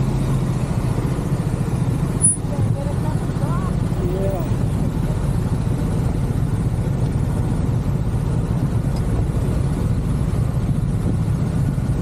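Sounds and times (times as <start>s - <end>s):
motorbike engines idling: 0.0s - 12.0s.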